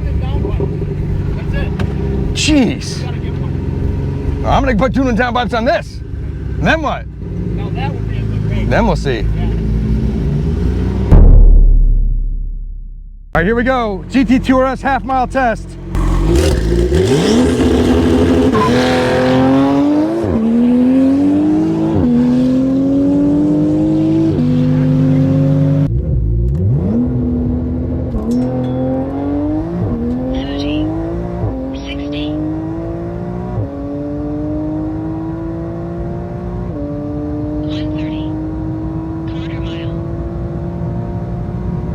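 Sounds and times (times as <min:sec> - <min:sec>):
car engine accelerating through gears: 0:00.0 - 0:11.2, 0:15.8 - 0:41.9.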